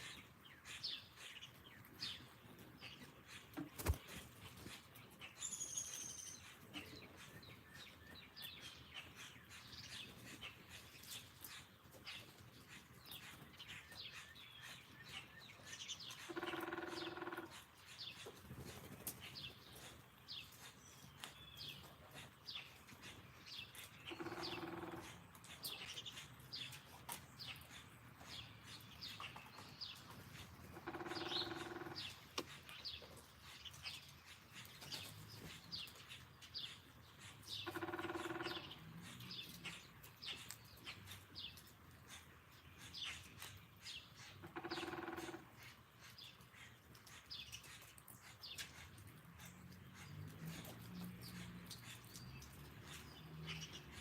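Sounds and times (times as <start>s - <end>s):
low steady bird call: 0.0s - 54.0s
songbirds chirping: 0.0s - 54.0s.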